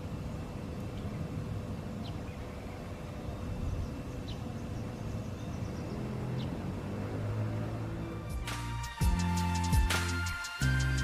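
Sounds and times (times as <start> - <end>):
distant traffic rumble: 0.0 - 10.3.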